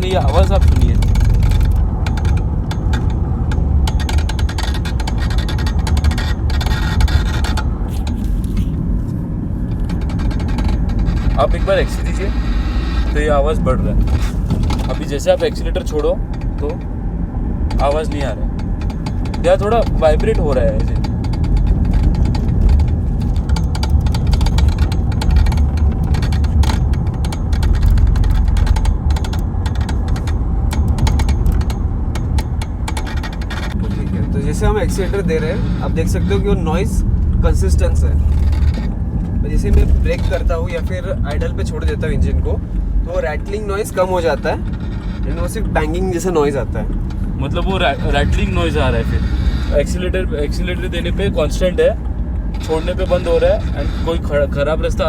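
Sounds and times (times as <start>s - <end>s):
car driving drone: 0.0s - 55.0s
rapid metallic rattling: 0.0s - 55.0s.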